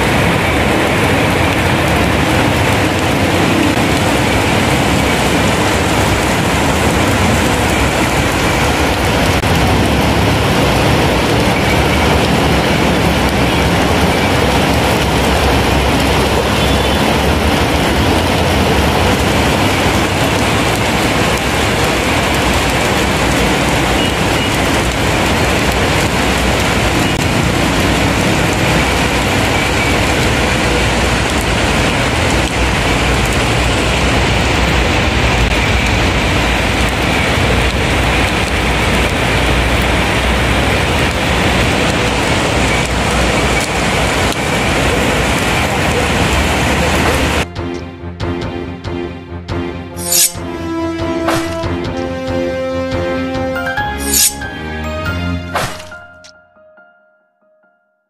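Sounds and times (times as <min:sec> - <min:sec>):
heavy rain on pavement: 0:00.0 - 0:47.8, 0:50.0 - 0:56.0.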